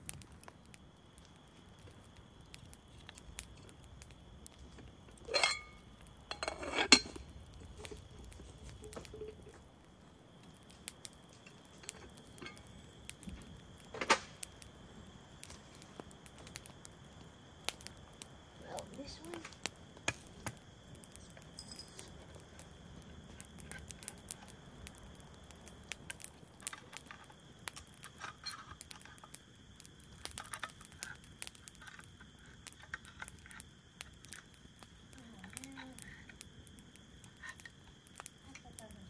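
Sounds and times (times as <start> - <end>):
small objects clicking and rustling: 0.0 - 9.7, 10.4 - 14.8, 17.6 - 39.0.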